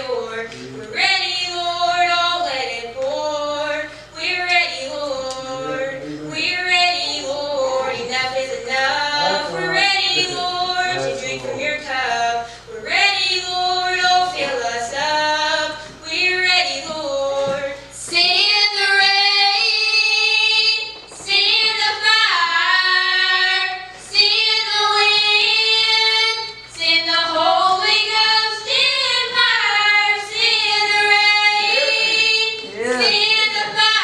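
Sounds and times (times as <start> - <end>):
young woman singing: 0.0 - 34.0.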